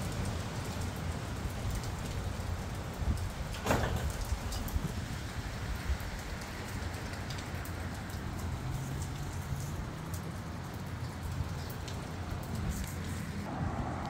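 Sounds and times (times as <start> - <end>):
low wind rumble: 0.0 - 14.0
steady rain falling: 0.0 - 14.0.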